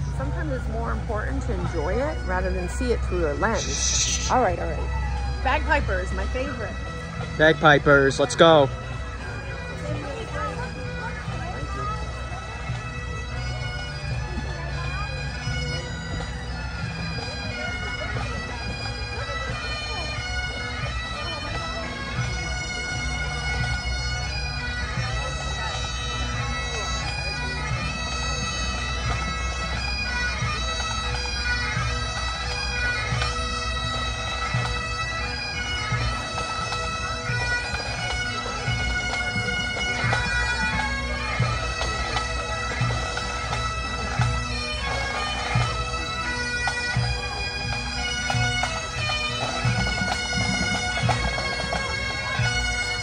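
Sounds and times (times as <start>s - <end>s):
bagpipe band playing: 0.0s - 53.0s.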